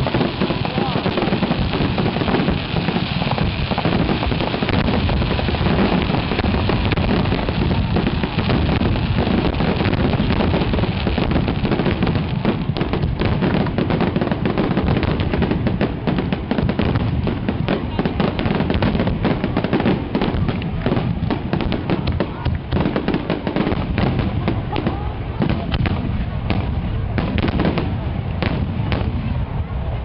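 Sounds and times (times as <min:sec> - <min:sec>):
fireworks bursting and crackling: 0:00.0 - 0:30.0.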